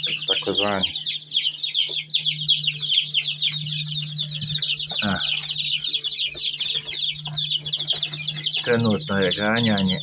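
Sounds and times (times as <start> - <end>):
chicks peeping: 0.0 - 10.0
steady low hum: 0.0 - 10.0.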